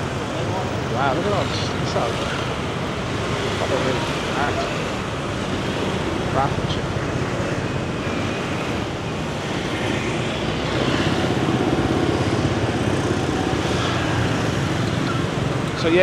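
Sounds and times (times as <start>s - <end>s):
motor scooters and cars passing: 0.0s - 16.0s.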